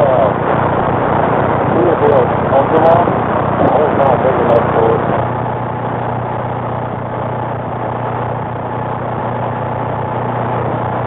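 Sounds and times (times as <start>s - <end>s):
radio static hiss with low hum: 0.0s - 11.0s.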